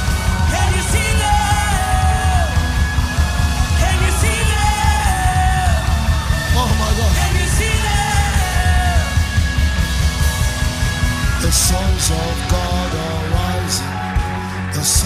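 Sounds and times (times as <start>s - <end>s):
live worship band music: 0.0s - 15.0s.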